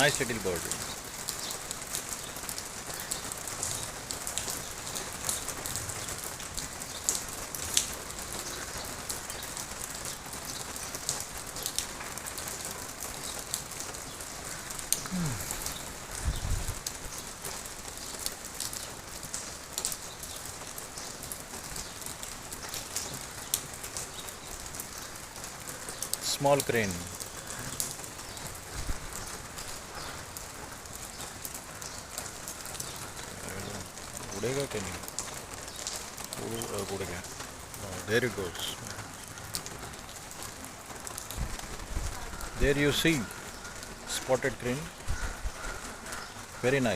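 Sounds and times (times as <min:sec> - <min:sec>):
crackling hiss with sharp ticks: 0:00.0 - 0:46.9.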